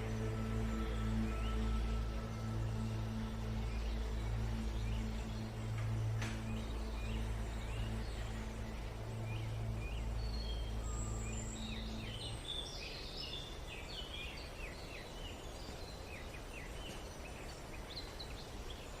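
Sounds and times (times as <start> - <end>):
low music drone: 0.0 - 18.9
birds chirping: 0.0 - 19.0
outdoor ambience hiss: 0.0 - 19.0.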